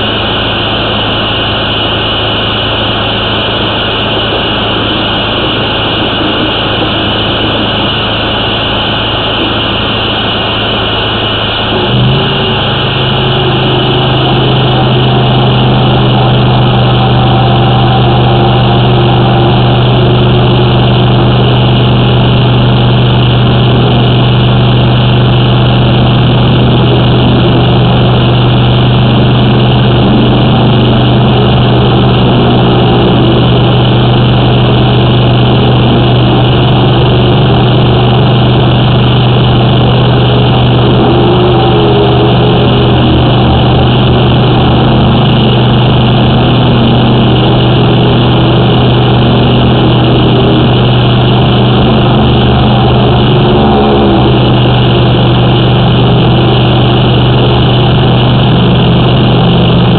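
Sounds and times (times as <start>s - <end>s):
engine low drone: 0.0s - 59.9s.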